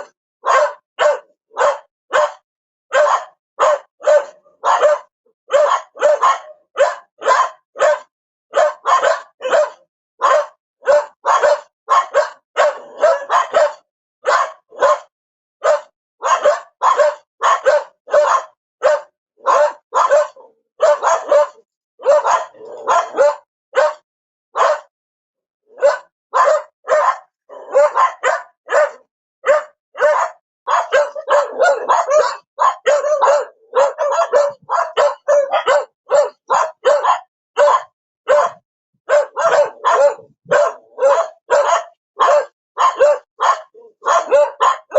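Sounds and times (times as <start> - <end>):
dog barking: 0.0 - 24.9, 25.7 - 44.9.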